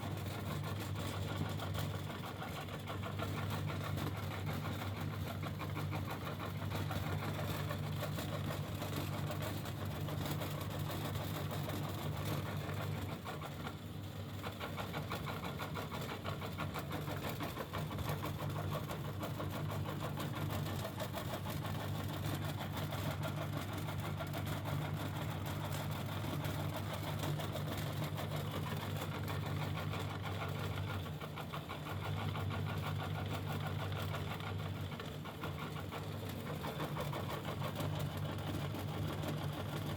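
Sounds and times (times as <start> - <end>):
meat grinder motor hum: 0.0 - 39.9.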